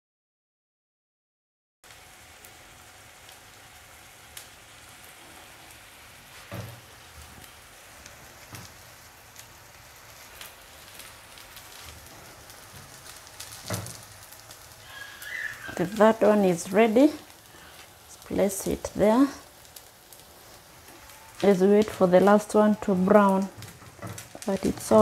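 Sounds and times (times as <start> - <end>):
food sizzling in oil: 1.8 - 25.0.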